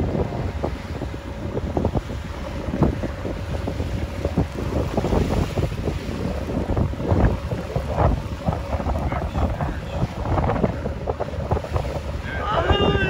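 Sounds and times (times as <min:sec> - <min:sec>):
water washing: 0:00.0 - 0:13.0
wind buffeting microphone: 0:00.0 - 0:13.0.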